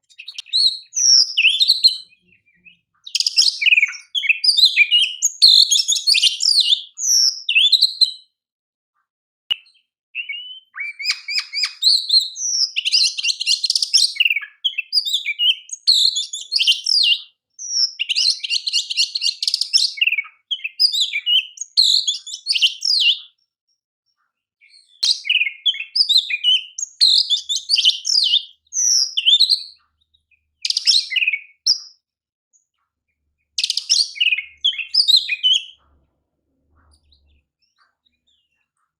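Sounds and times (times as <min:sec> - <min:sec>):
bird singing whistled phrases: 0:00.0 - 0:08.3, 0:09.5 - 0:23.4, 0:24.6 - 0:32.0, 0:33.6 - 0:35.8.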